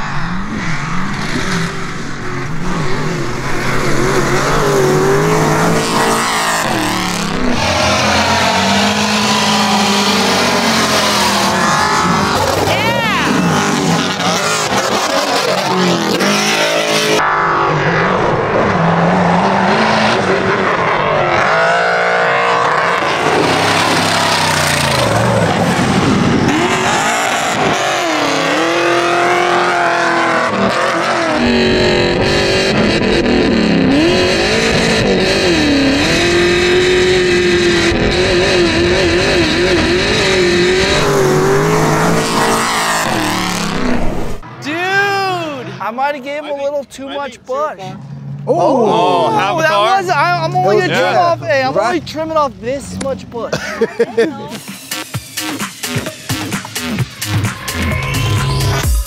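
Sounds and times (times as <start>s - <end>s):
engines at full throttle: 0.0s - 44.6s, 47.6s - 53.6s.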